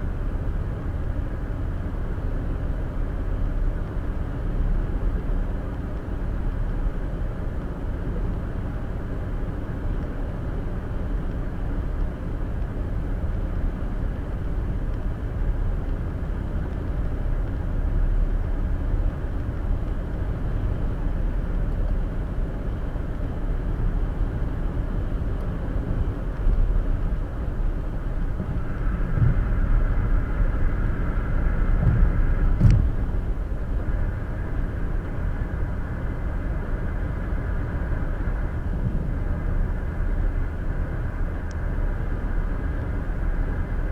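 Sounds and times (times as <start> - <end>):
car rumble inside cabin: 0.0 - 43.9.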